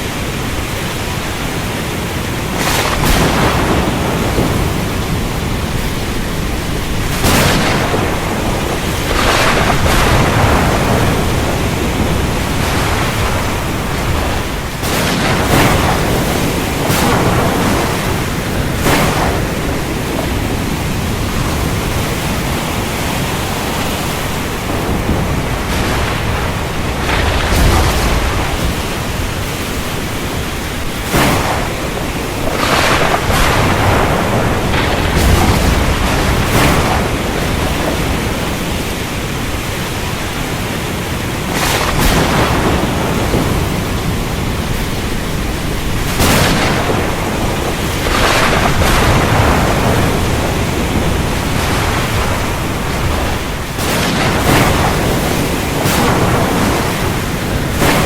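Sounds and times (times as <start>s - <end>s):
heavy rain hissing: 0.0s - 58.0s
sharp thunder cracks: 2.3s - 58.0s.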